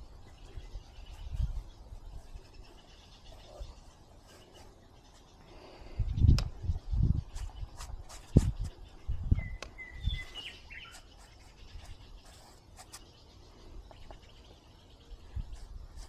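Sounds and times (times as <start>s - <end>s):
songbird chirps: 0.0s - 16.0s.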